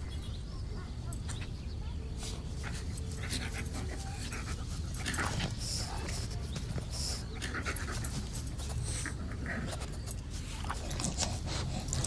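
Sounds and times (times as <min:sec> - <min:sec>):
dog panting: 0:02.0 - 0:12.0.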